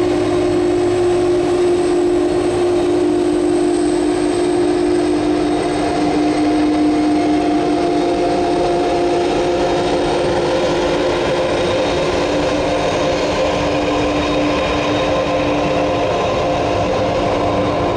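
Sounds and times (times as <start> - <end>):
jet engines roaring and whining: 0.0 - 17.9.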